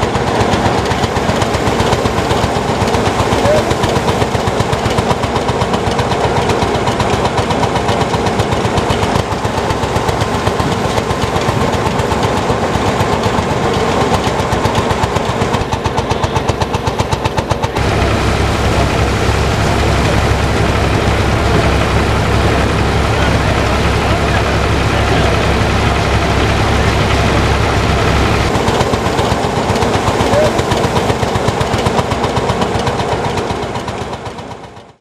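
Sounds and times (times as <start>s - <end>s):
threshing machine engine running: 0.0s - 35.0s.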